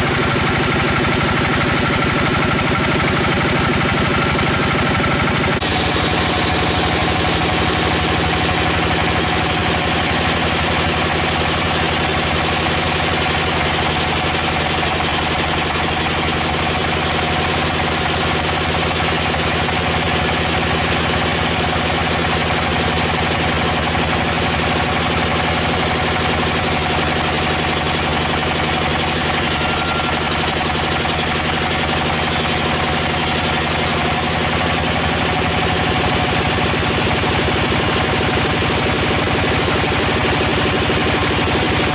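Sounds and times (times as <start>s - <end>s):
machine engine humming: 0.0s - 41.9s.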